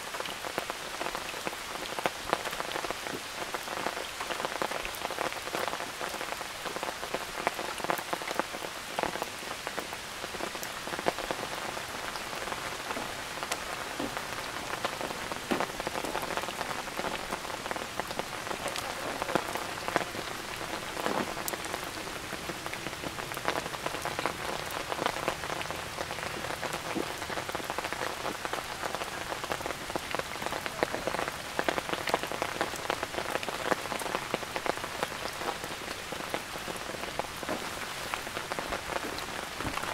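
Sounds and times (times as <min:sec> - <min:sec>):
steady rain falling: 0:00.0 - 0:39.9
raindrops ticking: 0:00.1 - 0:39.9.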